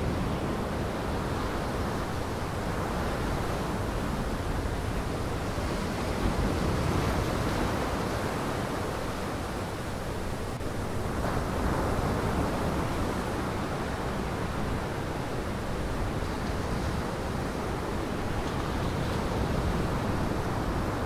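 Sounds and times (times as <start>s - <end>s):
waves breaking on shore: 0.0s - 21.0s
wind: 0.0s - 21.0s.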